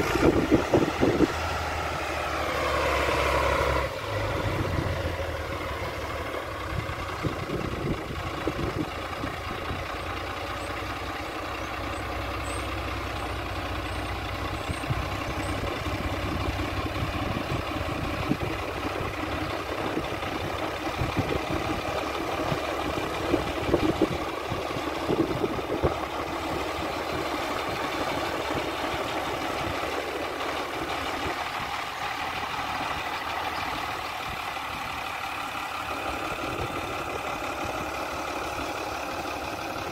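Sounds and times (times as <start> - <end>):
diesel tractor engine: 0.0 - 39.9.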